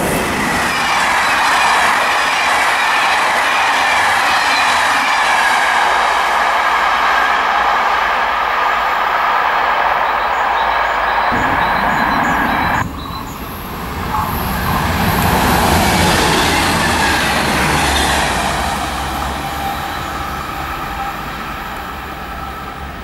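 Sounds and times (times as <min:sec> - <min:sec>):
diesel railcar passing: 0:00.0 - 0:23.0.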